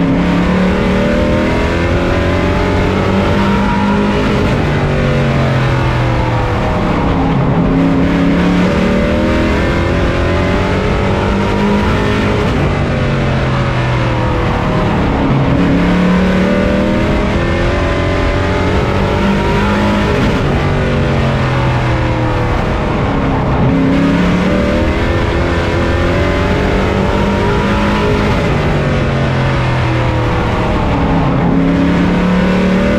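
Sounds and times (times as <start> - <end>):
racing truck engine revving: 0.0 - 32.9.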